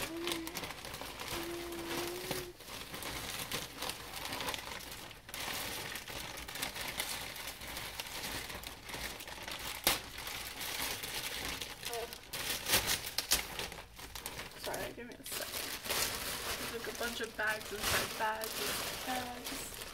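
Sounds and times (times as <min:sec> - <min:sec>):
plastic bags rustling: 0:00.0 - 0:19.9
sharp plastic crackle: 0:00.0 - 0:19.9.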